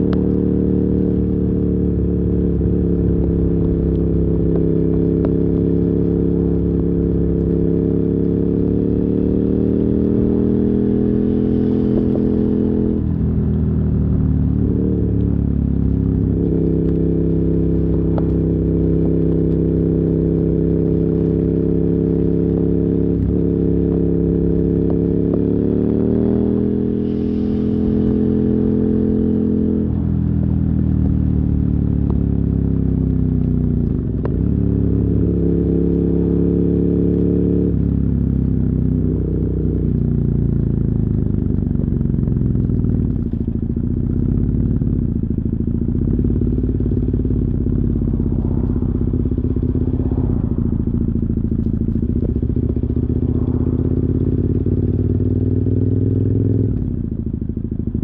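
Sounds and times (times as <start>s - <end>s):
motorcycle engine decelerating: 0.0s - 58.0s.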